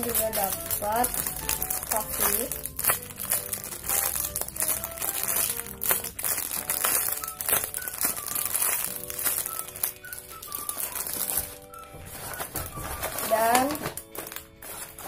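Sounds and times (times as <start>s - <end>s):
background music simple melody: 0.0s - 15.0s
plastic packaging crinkling: 0.0s - 15.0s.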